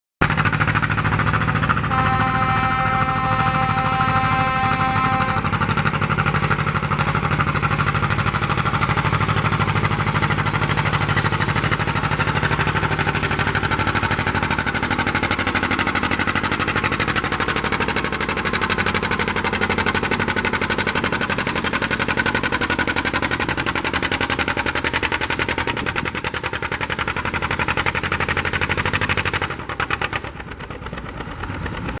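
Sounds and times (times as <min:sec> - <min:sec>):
tractor engine running hard: 0:00.2 - 0:32.0.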